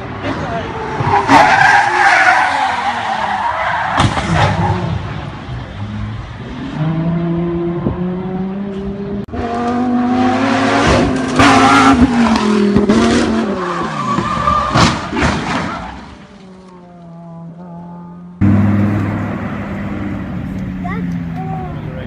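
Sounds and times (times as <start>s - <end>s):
car engine revving: 0.6s - 22.0s.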